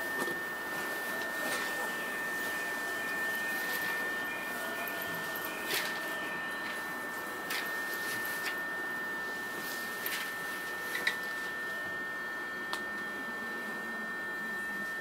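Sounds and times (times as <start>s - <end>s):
high electrical whine: 0.0s - 15.0s.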